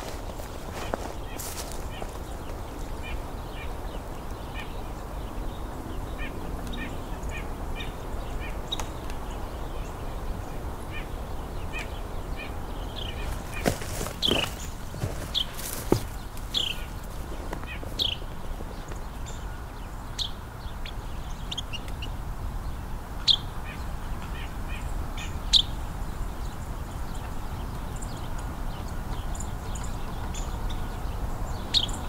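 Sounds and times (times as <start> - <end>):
wren calling: 0.0 - 32.0.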